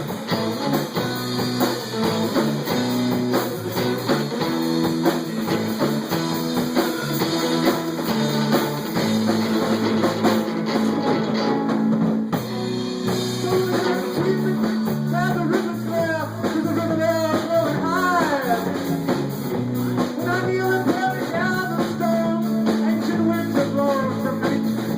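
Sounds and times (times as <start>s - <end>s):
drums: 0.0s - 24.9s
guitar: 0.0s - 24.9s
sustained bass notes: 0.0s - 24.9s.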